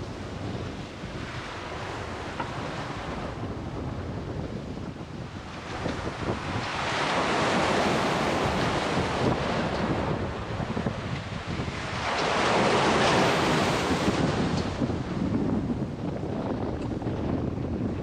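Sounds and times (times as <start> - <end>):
sea waves breaking along hull: 0.0 - 18.0
wind buffeting microphone: 0.0 - 18.0.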